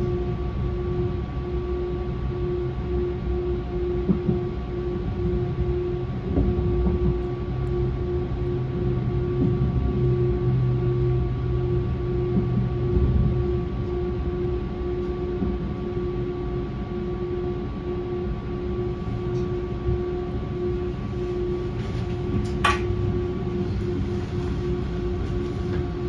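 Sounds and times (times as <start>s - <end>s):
electric hum: 0.0s - 26.0s
train rumbling: 0.0s - 26.0s.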